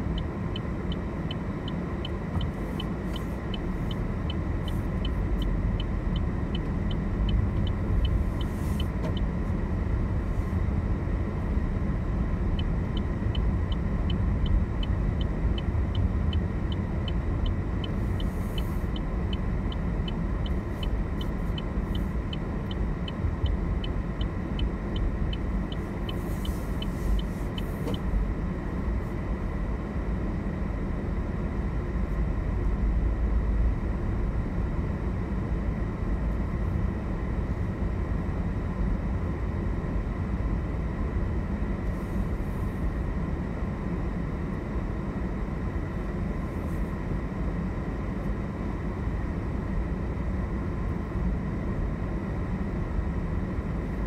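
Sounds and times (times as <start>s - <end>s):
car engine rumble in cabin: 0.0s - 54.0s.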